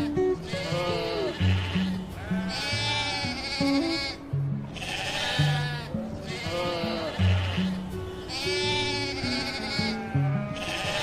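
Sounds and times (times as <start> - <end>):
music with low plucked notes: 0.0 - 11.0
sheep bleating: 0.0 - 11.0.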